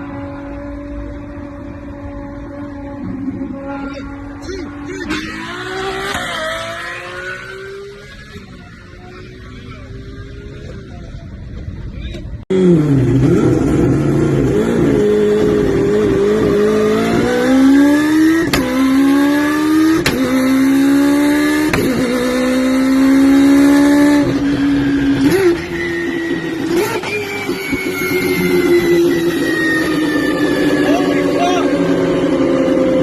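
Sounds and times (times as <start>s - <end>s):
car engine accelerating through gears: 0.0s - 11.7s, 12.5s - 33.0s.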